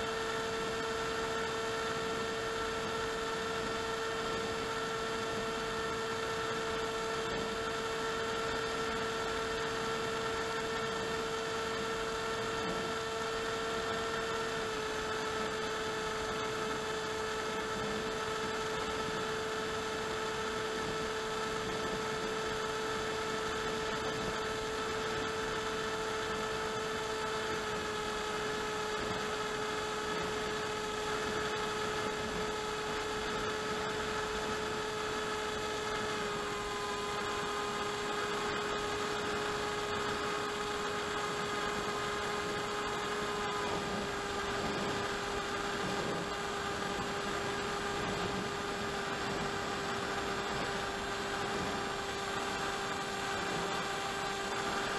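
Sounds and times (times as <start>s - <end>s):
electric motor and propeller whining: 0.0s - 54.9s.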